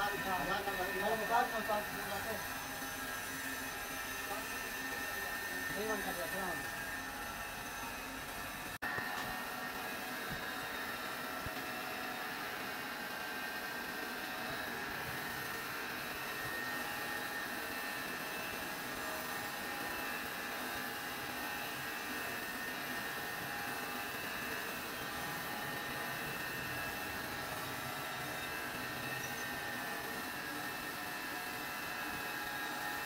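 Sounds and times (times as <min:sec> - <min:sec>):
grinding machine hiss and whine: 0:00.0 - 0:33.0.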